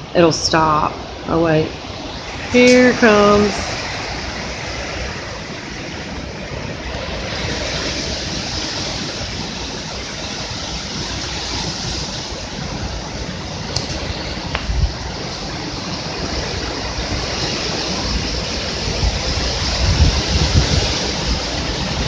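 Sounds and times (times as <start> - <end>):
strong wind gusting: 0.0 - 22.0
wind buffeting microphone: 0.0 - 22.0.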